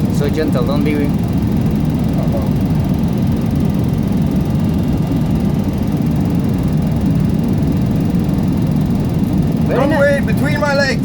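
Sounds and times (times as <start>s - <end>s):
jet engine rumble and airflow: 0.0s - 11.0s.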